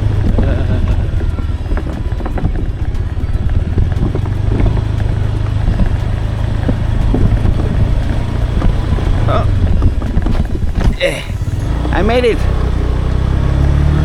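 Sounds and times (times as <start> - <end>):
motorbike running: 0.0 - 14.0
wind rumbling on microphone: 0.0 - 14.0.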